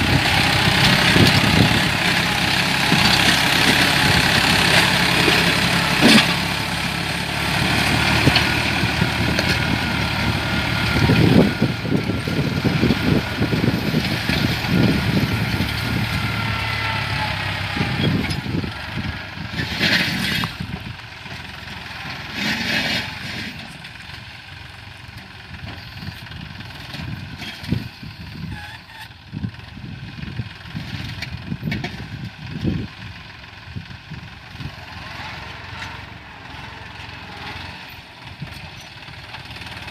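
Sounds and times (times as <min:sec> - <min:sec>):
tractor engine working: 0:00.0 - 0:39.9.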